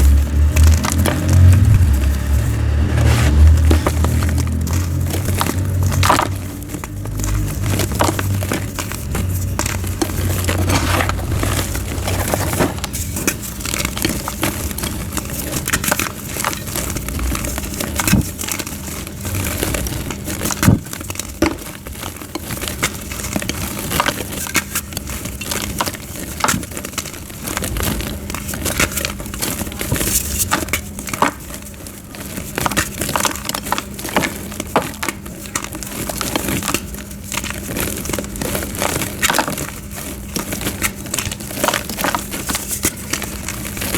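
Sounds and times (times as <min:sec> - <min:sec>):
chalk crunching and crumbling: 0:00.0 - 0:43.9.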